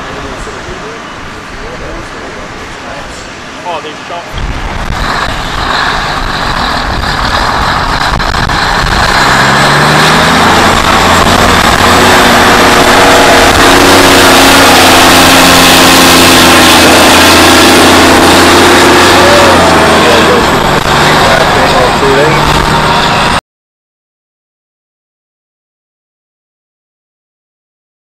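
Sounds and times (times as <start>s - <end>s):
truck diesel engine under heavy load: 0.0s - 23.4s.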